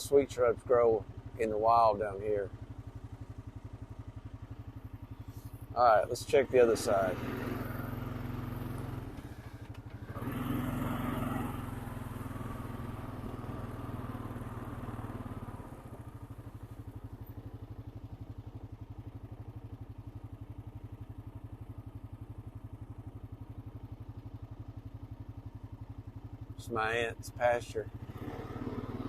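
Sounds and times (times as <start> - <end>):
atv engine chugging: 0.0 - 29.0.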